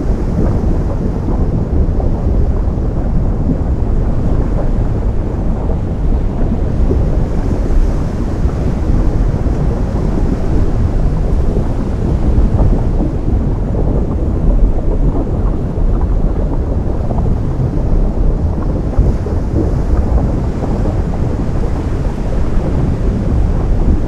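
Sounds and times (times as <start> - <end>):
surf on lava rumbling: 0.0 - 24.0.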